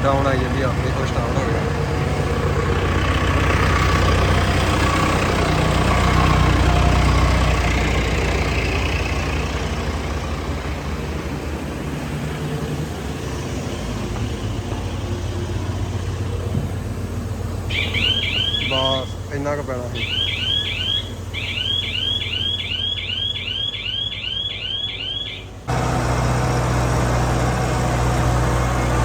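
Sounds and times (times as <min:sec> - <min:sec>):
farm machinery engine running: 0:00.0 - 0:29.0.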